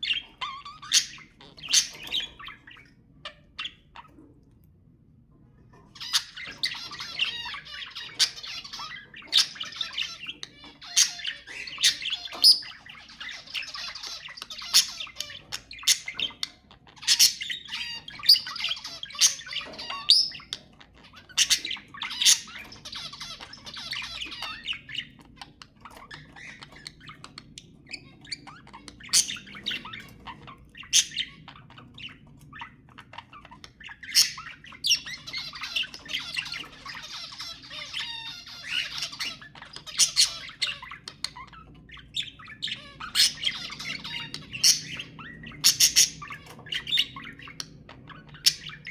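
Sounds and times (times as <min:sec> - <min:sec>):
budgerigars chattering and warbling: 0:00.0 - 0:04.3, 0:05.7 - 0:48.9.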